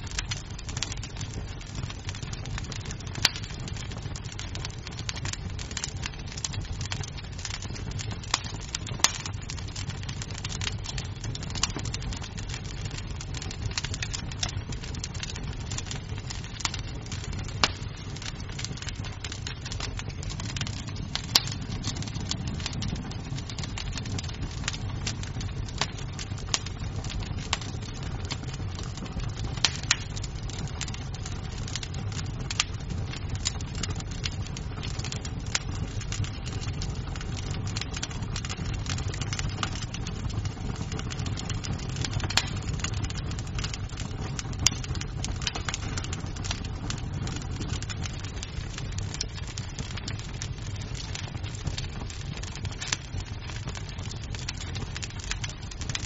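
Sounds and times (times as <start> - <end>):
burning wood popping: 0.0 - 56.0
wood fire crackling: 0.0 - 56.0.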